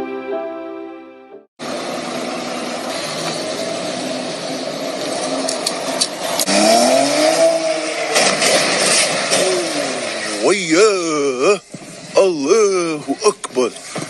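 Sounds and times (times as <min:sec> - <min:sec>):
car engine running: 0:01.6 - 0:14.0
road and tyre noise: 0:01.6 - 0:14.0.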